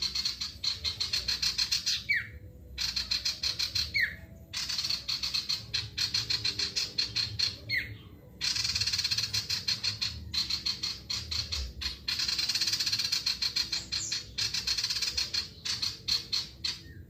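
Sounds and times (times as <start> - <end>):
bird singing rapid harsh notes: 0.0 - 17.0.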